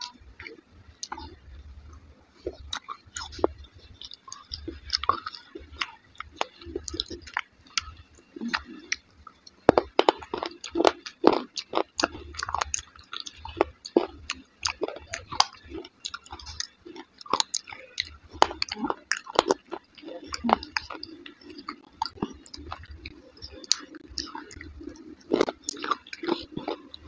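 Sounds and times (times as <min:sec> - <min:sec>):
chewing and mouth smacks: 0:00.0 - 0:27.0.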